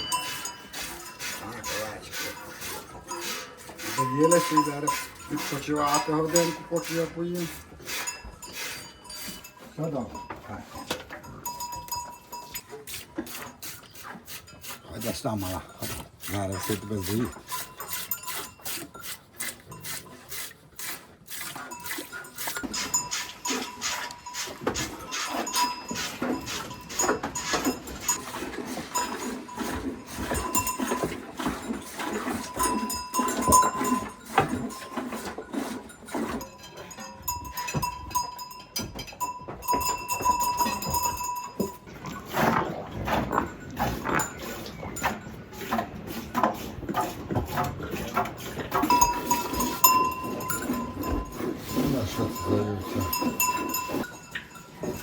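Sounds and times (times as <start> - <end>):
sheep bells clanking: 0.0 - 13.8, 14.4 - 20.3, 21.6 - 45.6, 48.2 - 55.0.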